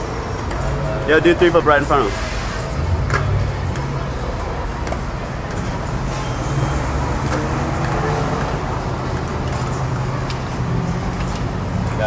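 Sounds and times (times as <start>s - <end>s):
distant voices: 0.0s - 10.5s
street traffic: 0.0s - 12.0s.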